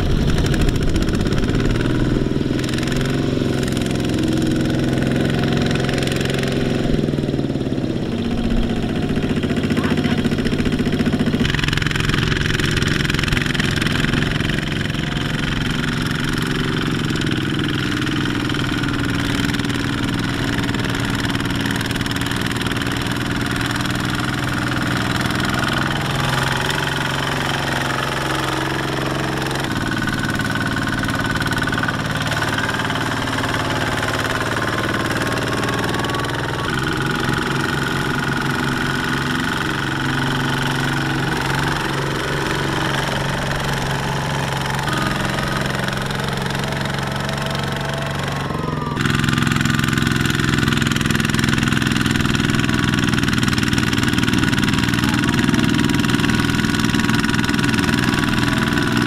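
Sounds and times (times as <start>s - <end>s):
diesel tractor engines under load: 0.0s - 59.0s.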